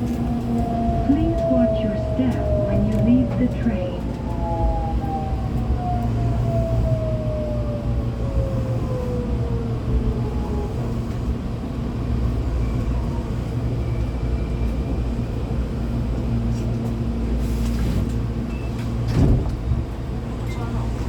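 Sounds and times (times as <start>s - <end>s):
train inverter whining: 0.0s - 17.4s
low train hum: 0.0s - 21.0s.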